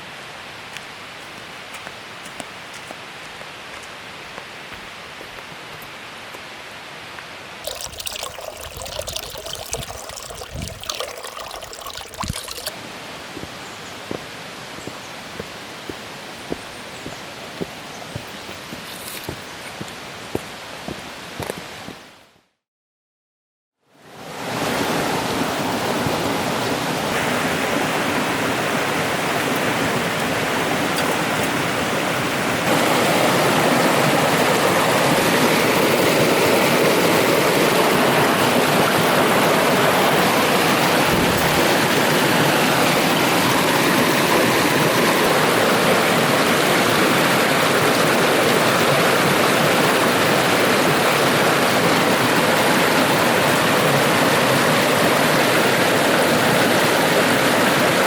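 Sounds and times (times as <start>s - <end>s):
stream water rushing: 7.6s - 21.5s, 24.0s - 58.0s.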